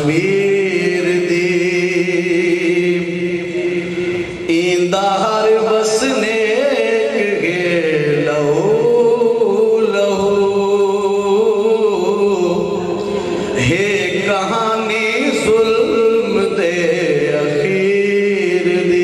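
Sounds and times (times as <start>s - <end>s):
man chanting a poem: 0.0s - 19.0s.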